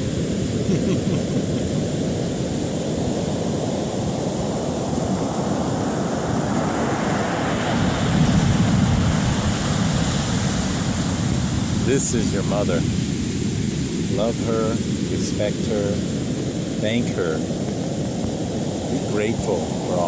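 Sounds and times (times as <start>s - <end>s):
ocean waves rushing: 0.0s - 20.0s
wave breaking: 0.0s - 20.0s.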